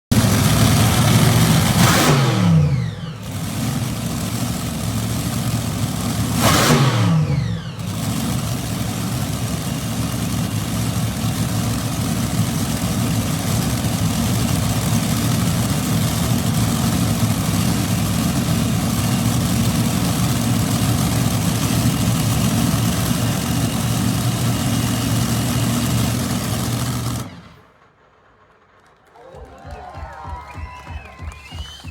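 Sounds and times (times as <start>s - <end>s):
engines idling and revving: 0.1s - 27.8s.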